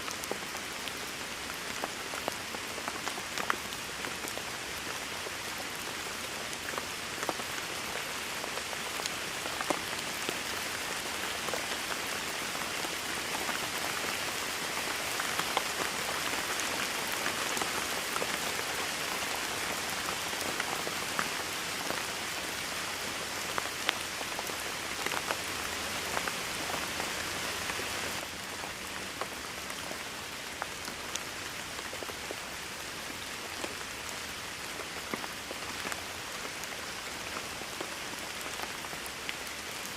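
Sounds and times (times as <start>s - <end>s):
raindrops ticking on surface: 0.0s - 39.9s
steady rain falling: 0.0s - 39.9s.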